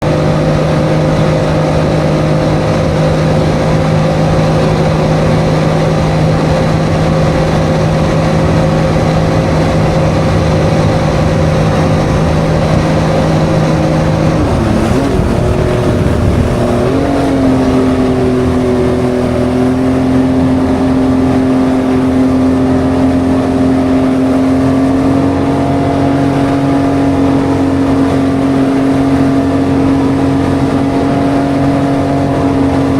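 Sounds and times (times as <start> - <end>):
jet ski engine running: 0.0 - 32.9.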